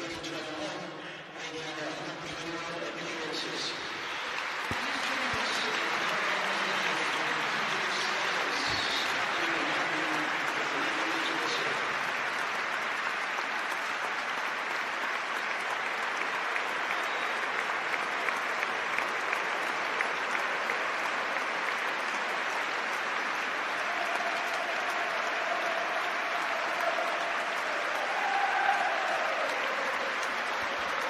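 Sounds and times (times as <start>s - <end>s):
stadium crowd applauding: 0.0s - 31.0s
nearby individual claps: 4.0s - 31.0s.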